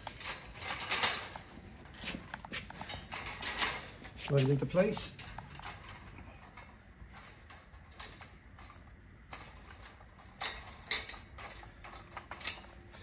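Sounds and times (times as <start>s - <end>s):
clicks and knocks of parts handled: 0.0s - 13.0s.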